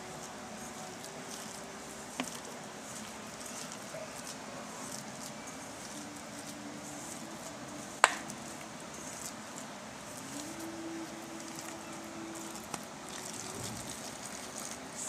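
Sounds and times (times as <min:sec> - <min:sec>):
faint steady hum: 0:00.0 - 0:15.0
hand squishing wet paste: 0:00.0 - 0:15.0.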